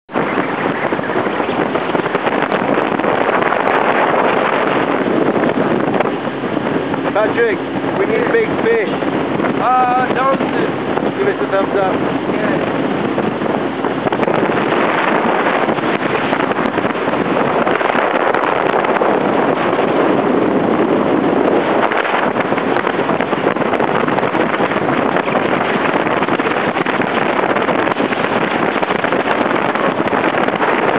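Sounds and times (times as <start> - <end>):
wind buffeting microphone: 0.0 - 30.9
boat motor: 0.1 - 30.9.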